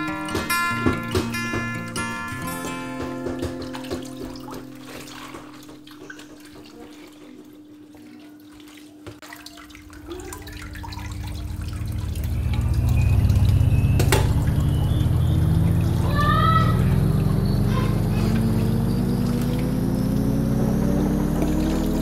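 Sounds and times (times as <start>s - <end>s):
faucet water running into sink: 3.0s - 22.0s.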